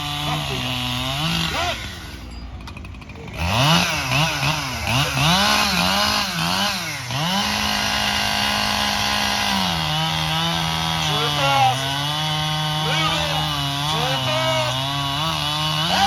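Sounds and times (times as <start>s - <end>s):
chainsaw engine revving: 0.0s - 16.0s.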